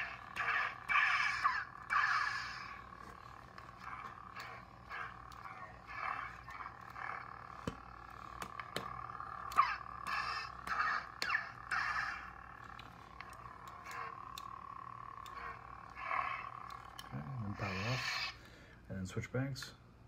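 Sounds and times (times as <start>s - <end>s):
sharp clicks: 0.0s - 17.2s
lightsaber hum: 0.0s - 18.5s.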